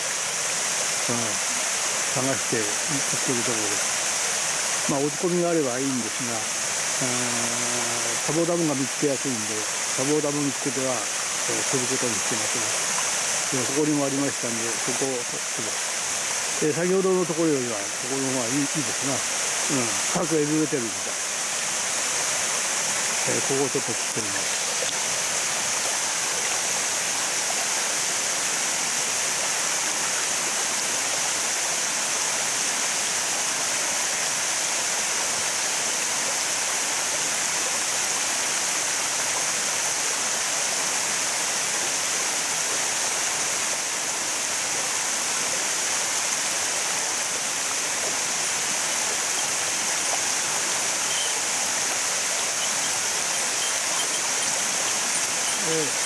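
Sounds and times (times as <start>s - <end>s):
water rushing over dam: 0.0s - 56.0s.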